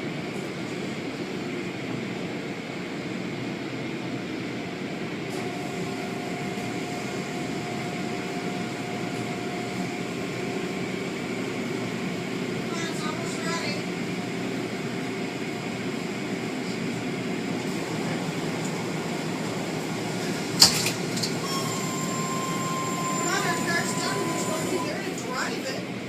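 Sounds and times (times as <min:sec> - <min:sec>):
car wash machinery running: 0:00.0 - 0:26.0.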